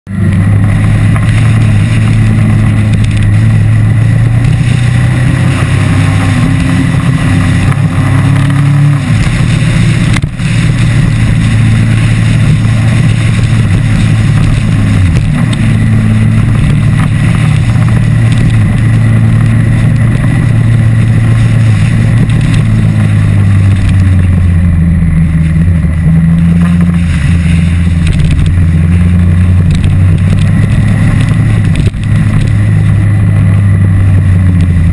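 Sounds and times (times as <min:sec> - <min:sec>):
wind and road noise: 0:00.0 - 0:34.9
motorcycle engine running: 0:00.1 - 0:34.9.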